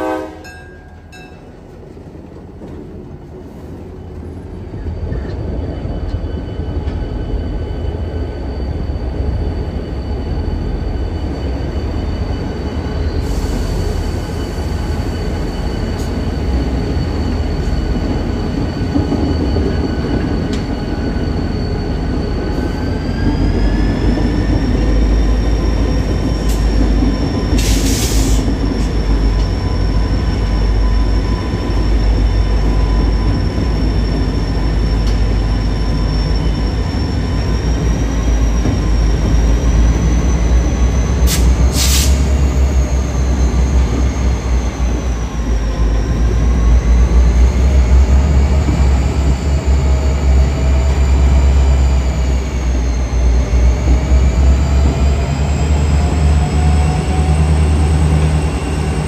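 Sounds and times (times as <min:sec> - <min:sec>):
freight train rumbling: 0:00.0 - 0:59.0
wheels squealing: 0:04.0 - 0:59.0.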